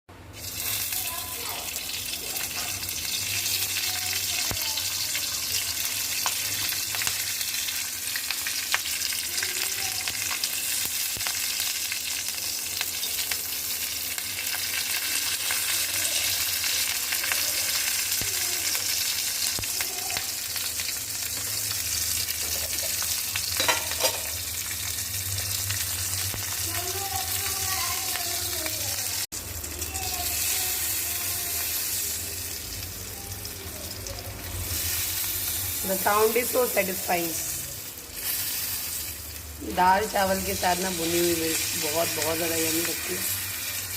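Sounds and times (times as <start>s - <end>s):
chillies sizzling in oil: 0.2s - 43.9s.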